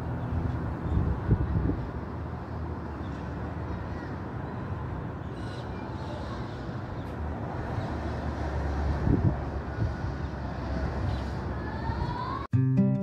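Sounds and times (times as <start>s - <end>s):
hum of traffic: 0.0s - 12.9s.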